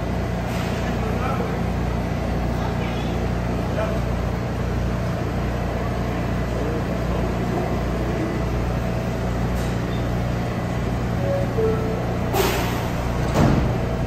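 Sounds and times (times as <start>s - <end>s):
train air conditioning hum: 0.0s - 14.0s.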